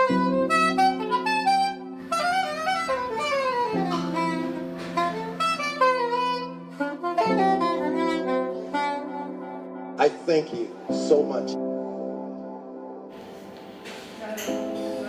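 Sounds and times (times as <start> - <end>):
sliding lead melody: 0.0 - 13.8.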